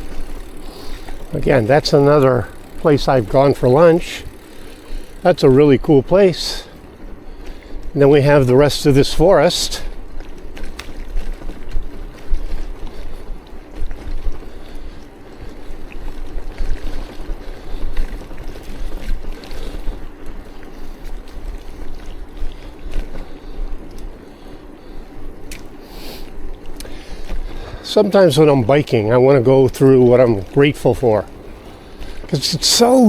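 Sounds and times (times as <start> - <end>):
bicycle tyre and road noise: 0.0 - 33.0.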